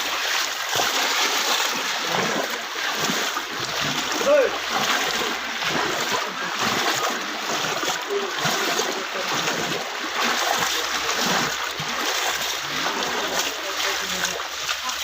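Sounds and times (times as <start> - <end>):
floodwater rushing and splashing: 0.0 - 15.0.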